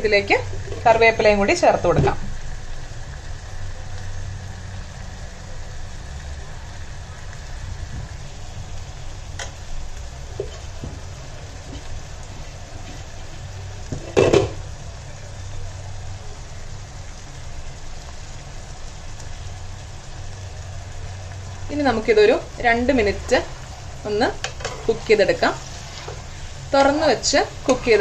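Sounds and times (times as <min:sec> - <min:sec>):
curry sizzling in a pan: 0:00.0 - 0:28.0
low steady hum: 0:00.0 - 0:28.0.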